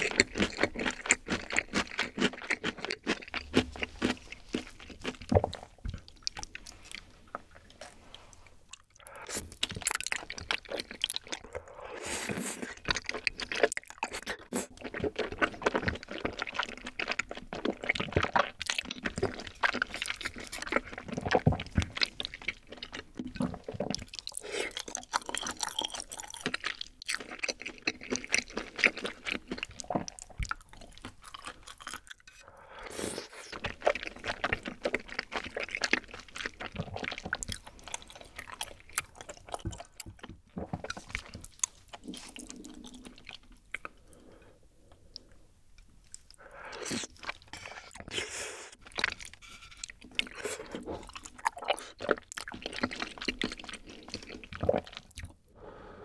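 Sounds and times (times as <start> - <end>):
wet chewing: 0.0 - 55.4.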